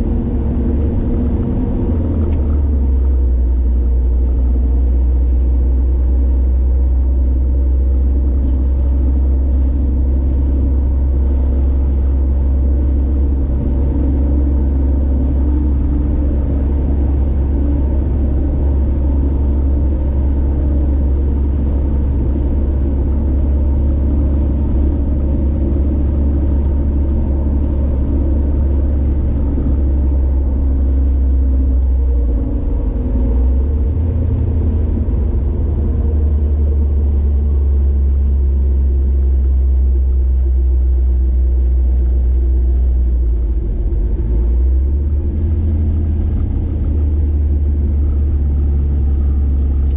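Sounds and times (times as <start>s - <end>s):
car engine: 0.0s - 49.9s
road noise: 0.0s - 49.9s.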